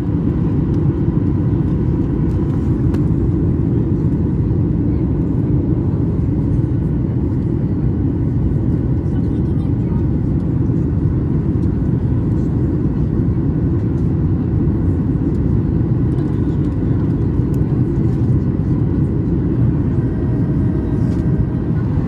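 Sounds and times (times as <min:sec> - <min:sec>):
airliner cabin engine roar: 0:00.0 - 0:22.0.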